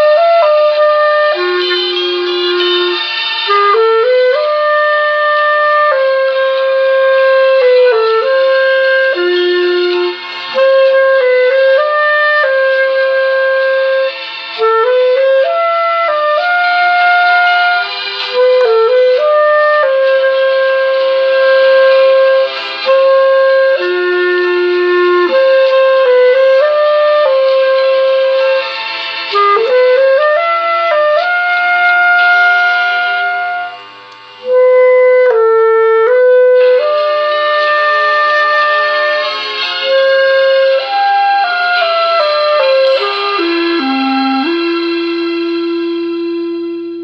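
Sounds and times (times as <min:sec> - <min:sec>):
clarinet solo melody: 0:00.0 - 0:47.0.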